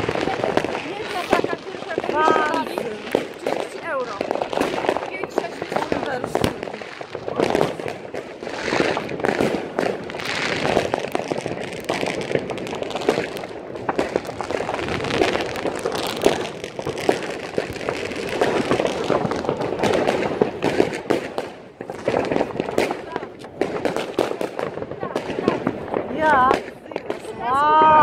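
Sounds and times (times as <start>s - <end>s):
fireworks and firecrackers crackling: 0.0s - 28.0s.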